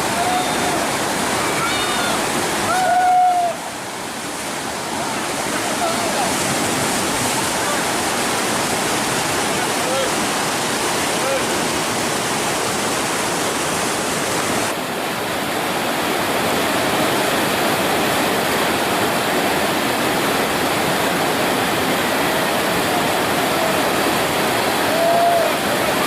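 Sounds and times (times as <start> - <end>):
river whitewater rushing: 0.0 - 26.0.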